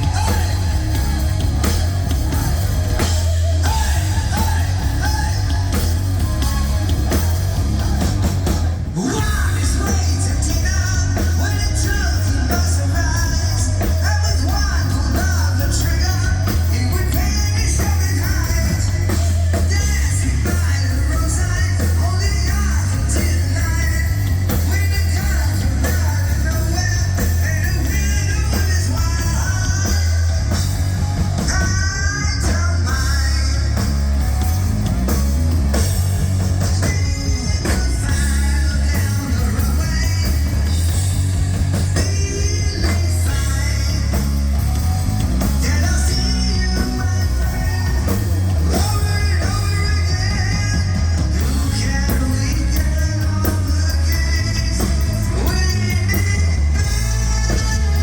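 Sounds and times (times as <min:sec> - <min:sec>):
person singing: 0:00.0 - 0:34.4, 0:36.4 - 0:58.0
heavy rock band playing: 0:00.0 - 0:58.0.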